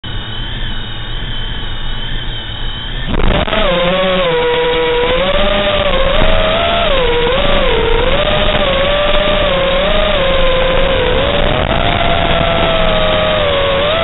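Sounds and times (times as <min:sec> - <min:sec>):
drone motors buzzing: 0:00.0 - 0:14.0
drone motors whining: 0:00.0 - 0:14.0.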